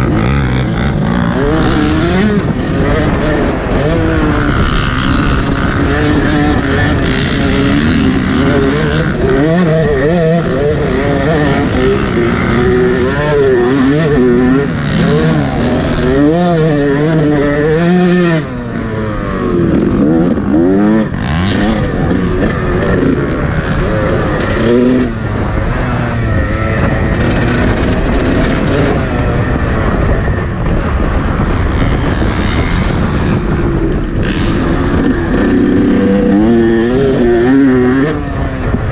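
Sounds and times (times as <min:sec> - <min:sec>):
two-stroke motocross engine revving: 0:00.0 - 0:38.9.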